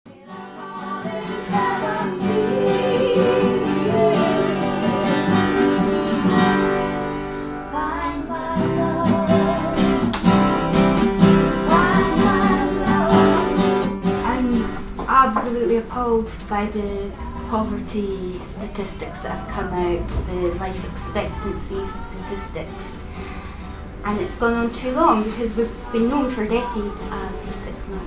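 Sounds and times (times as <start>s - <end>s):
person singing: 0.1s - 6.8s, 7.4s - 28.0s
strummed acoustic guitar: 0.1s - 28.0s.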